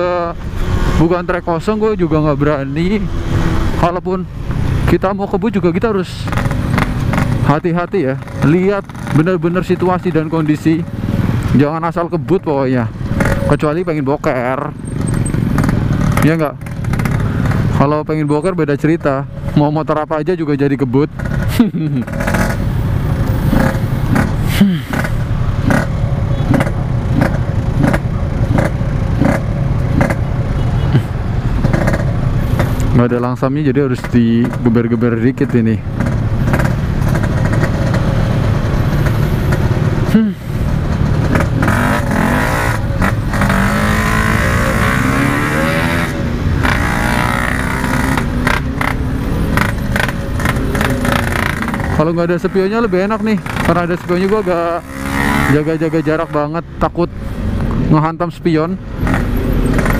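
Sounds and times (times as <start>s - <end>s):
two-stroke motorcycle engine revving: 4.7s - 19.1s, 21.1s - 33.2s, 34.0s - 56.6s, 58.9s - 59.9s.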